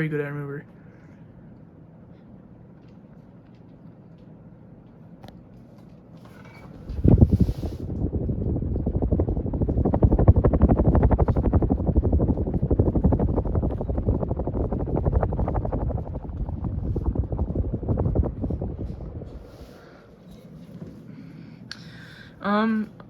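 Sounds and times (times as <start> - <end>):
ceiling fan air buffeting microphone: 0.0 - 23.0.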